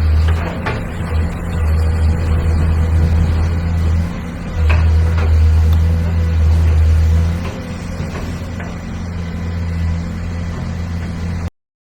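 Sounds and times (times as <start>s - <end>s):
engine running with low drone: 0.0s - 11.5s.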